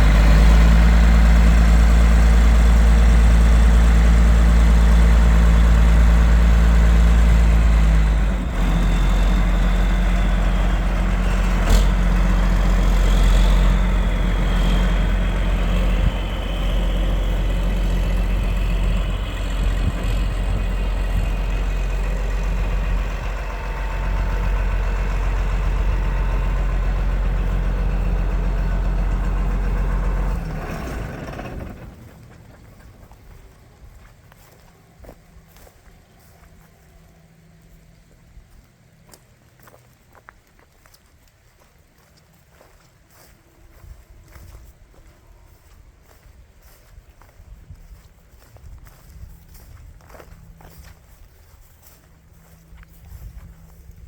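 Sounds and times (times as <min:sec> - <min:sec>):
tractor diesel engine idling: 0:00.0 - 0:39.0, 0:42.0 - 0:54.0.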